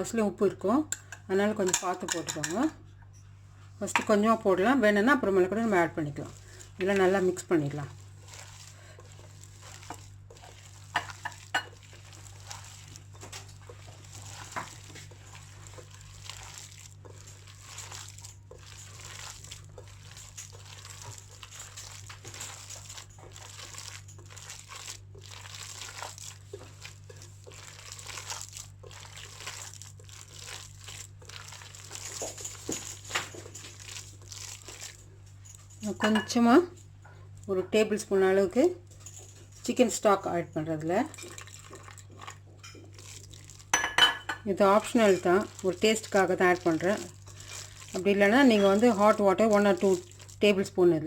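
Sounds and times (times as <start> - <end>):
wet squishing of mixed filling: 3.7 - 51.0.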